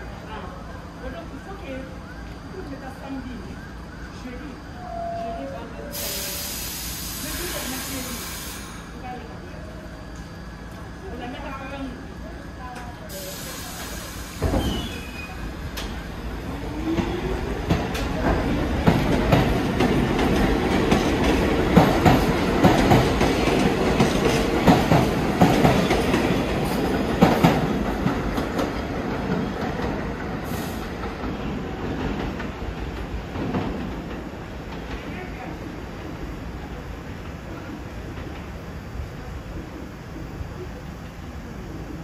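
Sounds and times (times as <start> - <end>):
subway train passing: 0.0 - 42.0.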